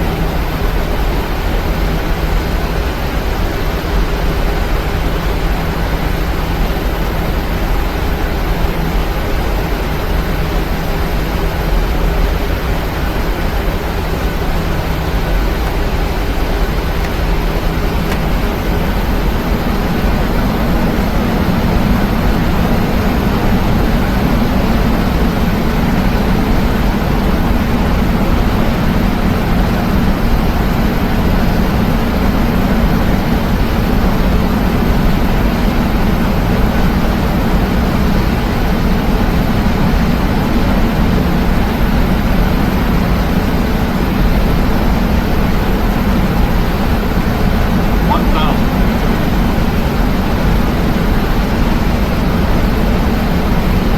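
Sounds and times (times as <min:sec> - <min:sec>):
airliner cabin roar: 0:07.0 - 0:43.3, 0:43.9 - 0:53.9.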